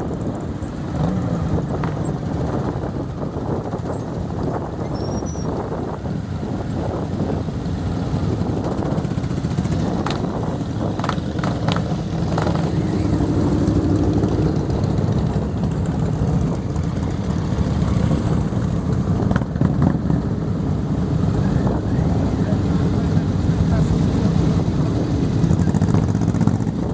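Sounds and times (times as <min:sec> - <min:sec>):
motorcycle engines idling: 0:00.0 - 0:26.9.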